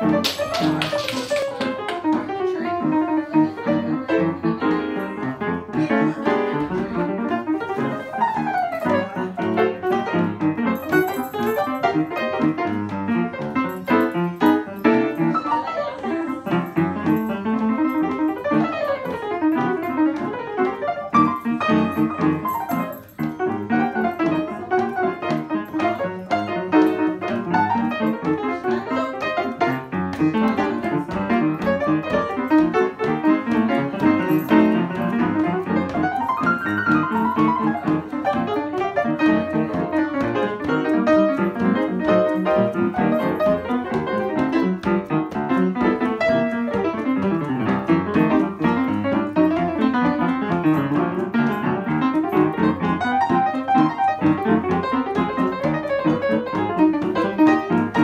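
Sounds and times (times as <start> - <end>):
solo piano playing: 0.0 - 58.0.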